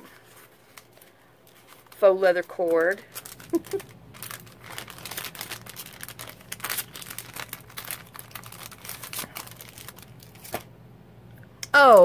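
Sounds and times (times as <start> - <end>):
cellophane crinkling: 0.0 - 10.7.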